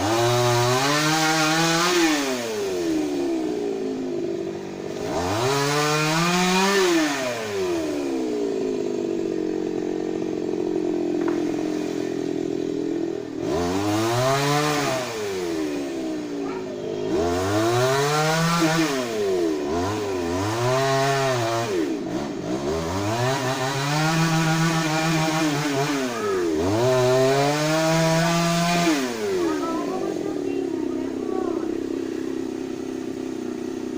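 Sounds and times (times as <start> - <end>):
chainsaw engine revving: 0.0 - 33.9.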